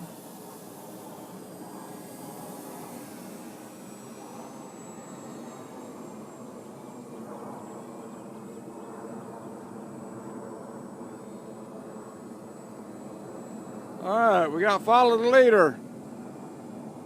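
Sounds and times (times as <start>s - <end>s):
rc plane motor buzzing drone: 0.0s - 17.0s.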